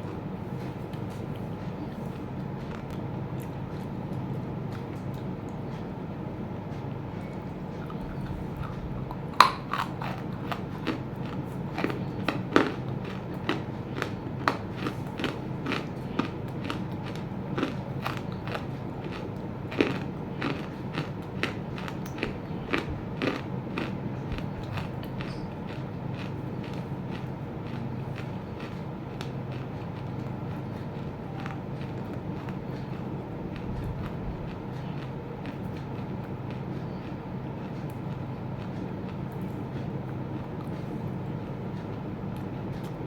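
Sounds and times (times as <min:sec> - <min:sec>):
steady low hum: 0:00.0 - 0:43.0
crunchy clay bitten and chewed: 0:07.2 - 0:43.0.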